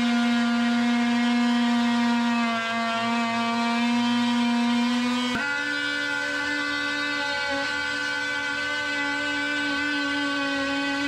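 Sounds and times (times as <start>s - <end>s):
oscillating tool buzzing: 0.0s - 11.0s.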